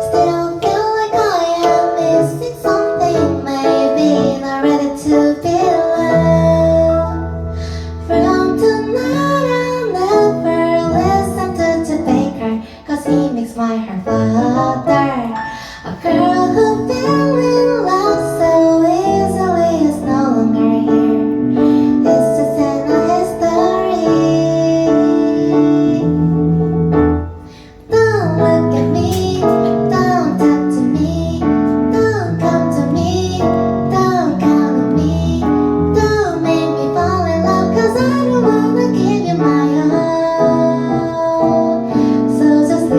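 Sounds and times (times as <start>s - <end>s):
woman singing: 0.0s - 26.6s, 27.8s - 42.9s
keyboard accompaniment: 0.0s - 42.9s.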